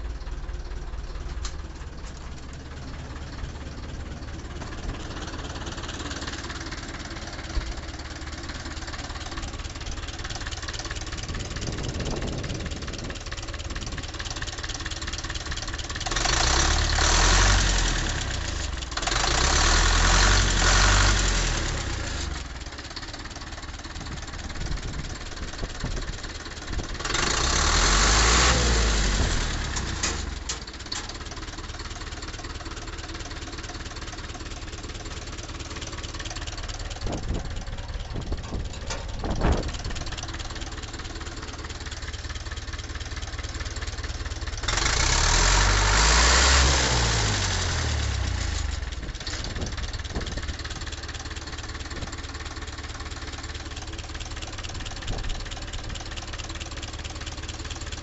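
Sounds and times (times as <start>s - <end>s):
diesel tractor engine idling and revving: 0.0s - 58.0s.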